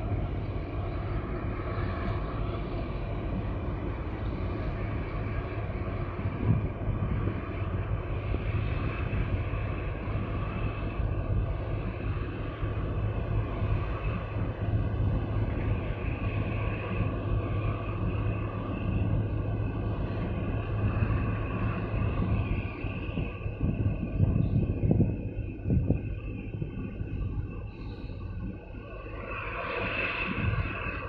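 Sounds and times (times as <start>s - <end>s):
low engine drone: 0.0s - 31.0s
wind and water noise: 0.0s - 31.0s.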